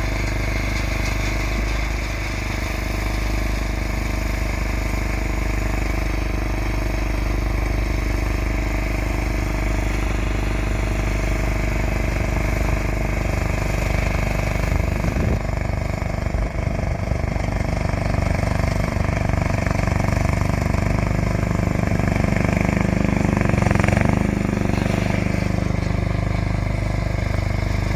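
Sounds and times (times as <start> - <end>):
engine knocks: 0.0 - 27.9
snowblower engine running: 0.0 - 27.9.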